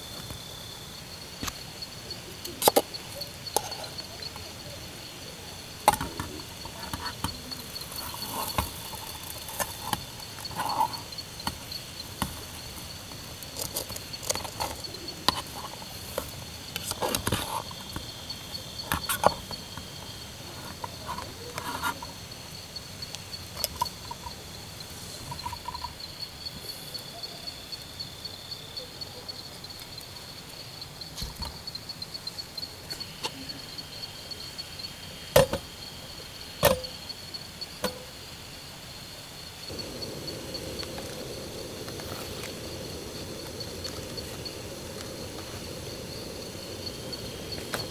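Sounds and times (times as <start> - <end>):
insects calling: 0.0 - 47.9.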